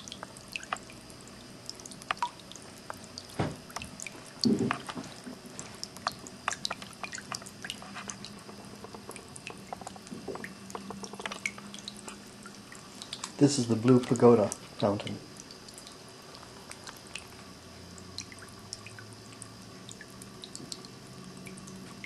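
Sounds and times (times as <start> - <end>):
flowing water hiss: 0.0 - 22.0
water dripping and trickling: 0.0 - 22.0.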